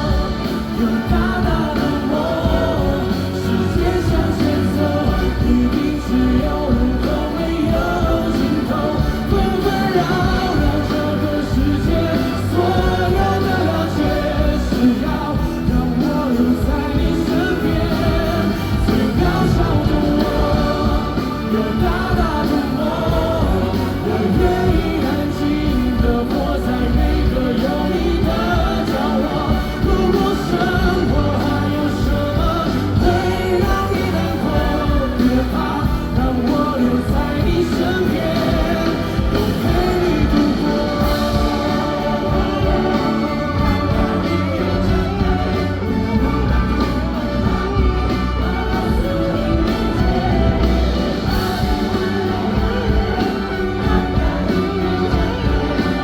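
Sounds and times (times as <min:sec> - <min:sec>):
live band playing pop ballad: 0:00.0 - 0:56.0
person singing: 0:00.0 - 0:56.0.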